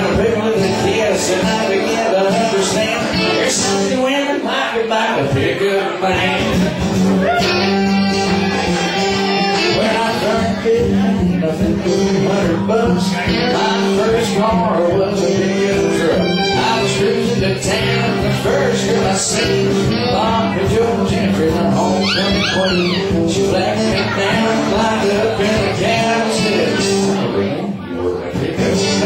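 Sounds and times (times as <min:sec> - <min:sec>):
drums: 0:00.0 - 0:03.9, 0:05.2 - 0:27.6, 0:28.2 - 0:29.0
electric guitar: 0:00.0 - 0:04.0, 0:06.0 - 0:29.0
acoustic guitar strumming: 0:00.0 - 0:29.0
person singing: 0:00.0 - 0:29.0.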